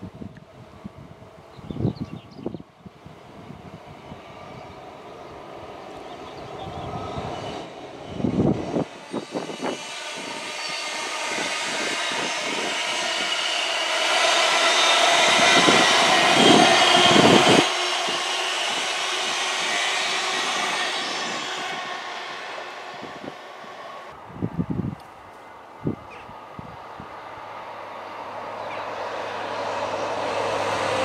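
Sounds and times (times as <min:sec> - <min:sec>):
wind buffeting microphone: 0:00.0 - 0:27.4
deep train rumble: 0:00.0 - 0:31.0
train wheels rushing on rails: 0:03.1 - 0:24.2, 0:25.0 - 0:31.0.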